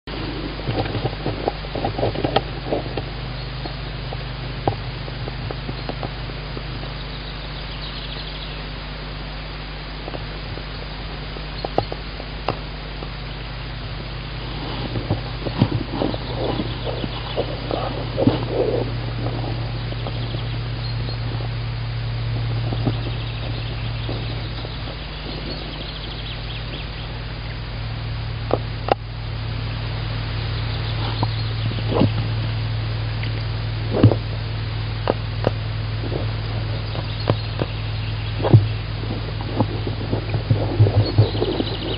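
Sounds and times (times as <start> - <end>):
microphone hiss and low hum: 0.0 - 41.9.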